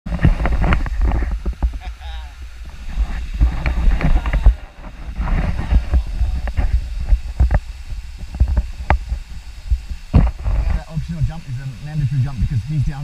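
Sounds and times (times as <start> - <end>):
low rumbling wind: 0.1 - 12.7.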